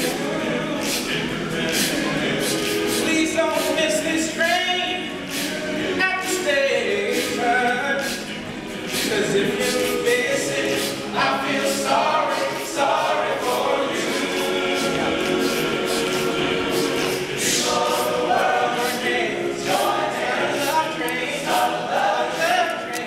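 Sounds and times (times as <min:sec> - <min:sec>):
male a cappella group singing: 0:00.0 - 0:23.0.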